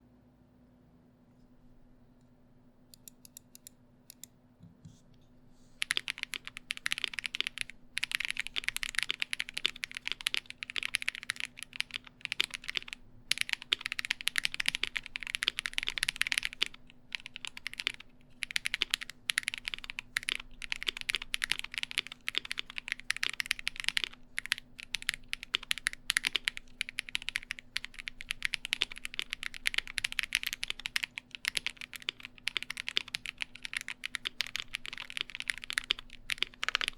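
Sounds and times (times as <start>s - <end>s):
mechanical keyboard typing: 5.8s - 36.9s.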